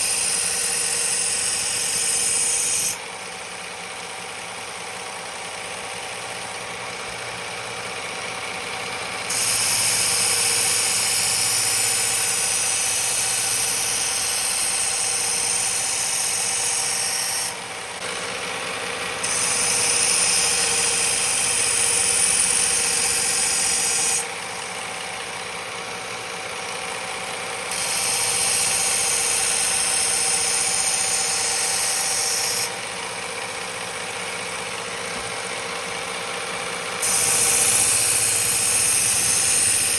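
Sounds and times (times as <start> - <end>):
belt grinder motor hum: 0.0 - 39.9.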